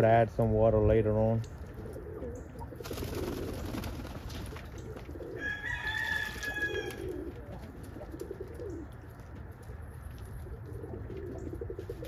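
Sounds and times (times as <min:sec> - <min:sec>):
pigeons cooing: 0:01.5 - 0:12.0.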